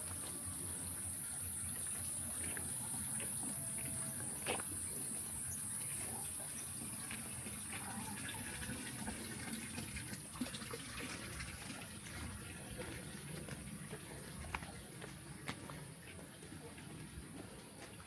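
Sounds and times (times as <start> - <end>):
water running: 0.0 - 14.8.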